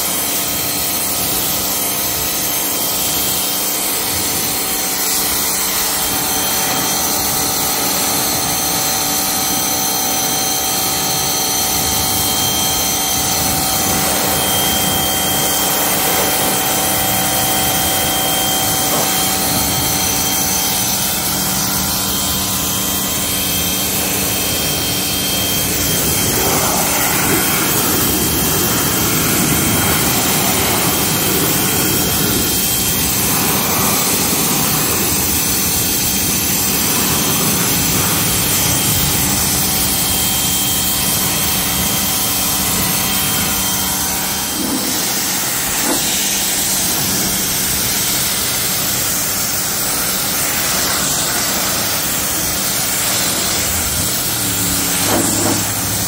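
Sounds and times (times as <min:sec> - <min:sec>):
pressure washer motor hum: 0:00.0 - 0:56.0
water jet spraying car: 0:00.0 - 0:56.0.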